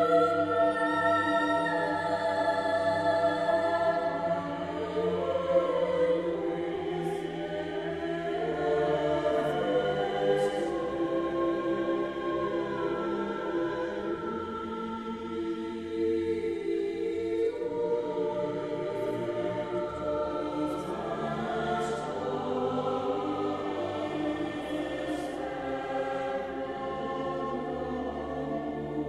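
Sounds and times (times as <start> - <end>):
choir singing slow chords: 0.0 - 29.0.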